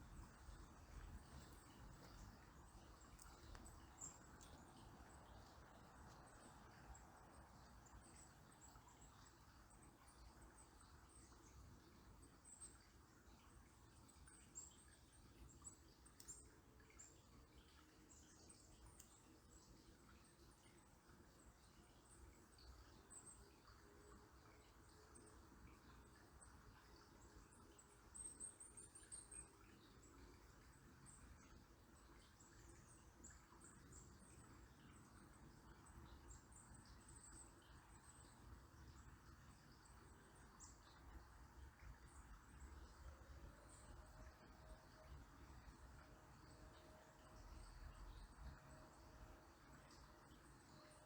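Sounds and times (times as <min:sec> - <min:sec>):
faint river babbling: 0:00.0 - 0:51.0
small birds chirping: 0:00.0 - 0:51.0.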